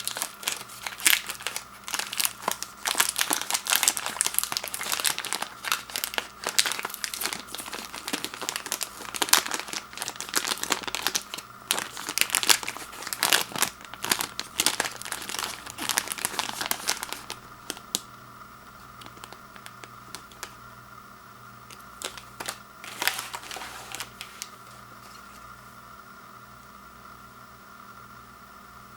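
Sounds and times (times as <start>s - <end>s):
packaging crinkling: 0.0s - 20.6s, 21.7s - 25.5s.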